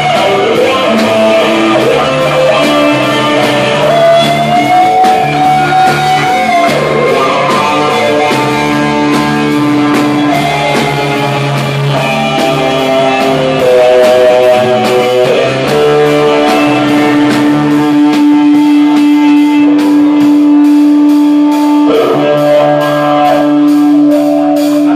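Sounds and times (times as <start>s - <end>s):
live rock band playing: 0.0s - 24.9s.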